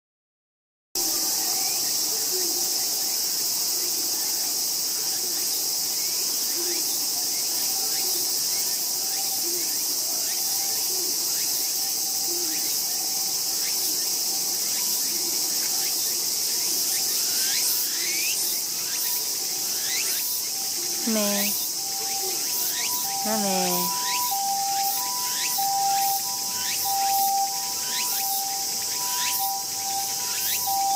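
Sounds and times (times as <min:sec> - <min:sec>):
shrill insect chorus: 0:01.0 - 0:30.9.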